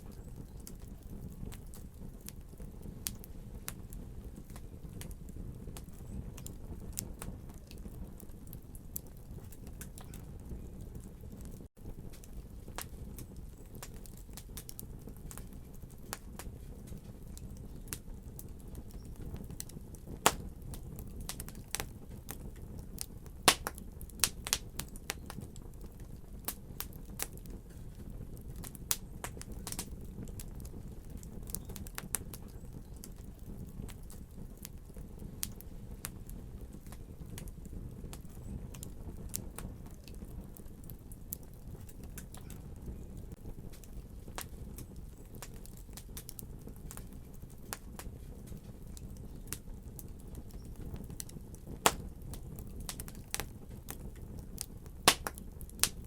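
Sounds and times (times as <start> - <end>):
fire popping and snapping: 0.0 - 56.0
wood fire crackling: 0.0 - 56.0.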